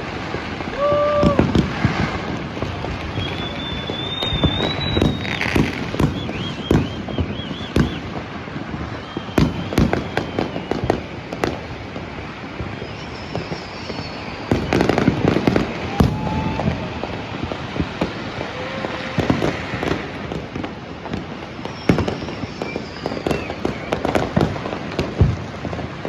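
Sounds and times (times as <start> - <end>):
fireworks bangs and pops: 0.0 - 26.0
whistling fireworks: 0.0 - 26.0.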